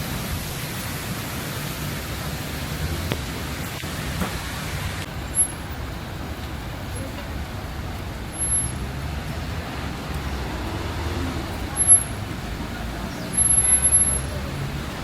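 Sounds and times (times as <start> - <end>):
rain hissing: 0.0 - 15.0
vehicle engines running: 0.0 - 15.0.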